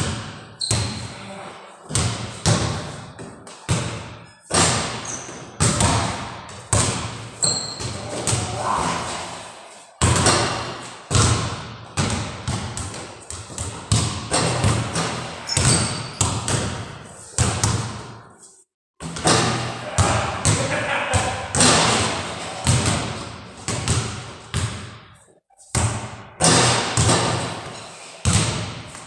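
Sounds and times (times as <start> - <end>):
basketballs bouncing on gym floor: 0.0 - 9.2, 10.0 - 18.2, 19.0 - 25.1, 25.7 - 29.0.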